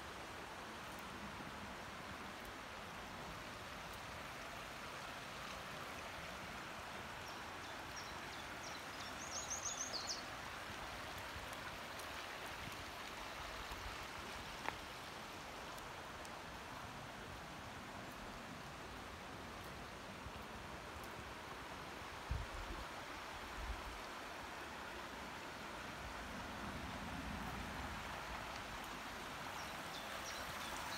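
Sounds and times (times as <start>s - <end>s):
rocky stream rushing: 0.0s - 30.9s.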